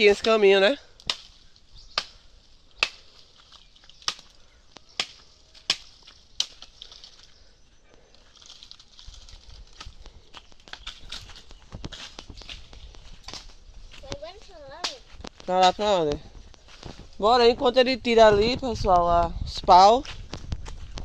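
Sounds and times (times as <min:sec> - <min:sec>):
dry firewood cracking: 0:00.0 - 0:21.0.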